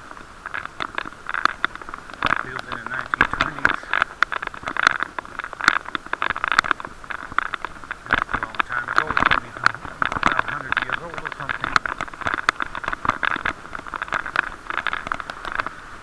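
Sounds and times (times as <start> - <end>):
muffled road and wind rumble: 0.0 - 16.0.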